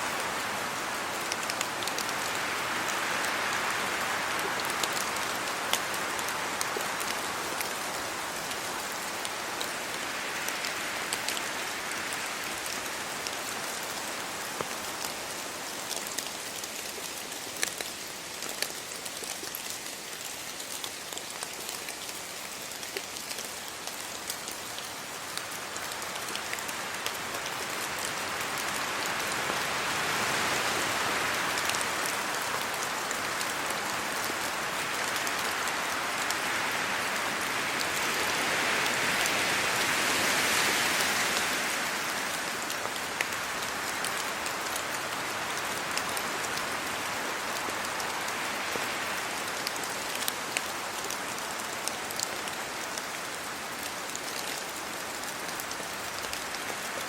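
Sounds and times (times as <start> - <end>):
steady rain falling: 0.0 - 57.0
wind rustling leaves: 0.0 - 57.0.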